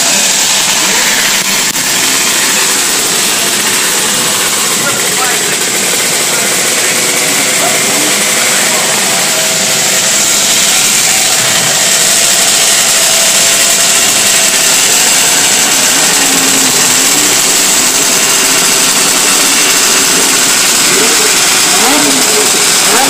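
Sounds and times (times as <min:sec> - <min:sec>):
motorcycle engines buzzing: 0:00.0 - 0:23.0.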